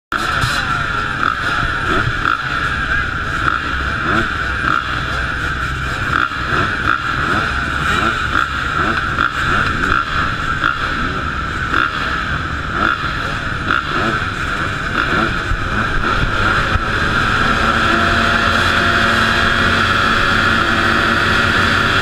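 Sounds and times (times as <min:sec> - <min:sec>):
voice: 0:00.1 - 0:11.9, 0:14.9 - 0:22.0
motocross engines revving: 0:00.1 - 0:22.0.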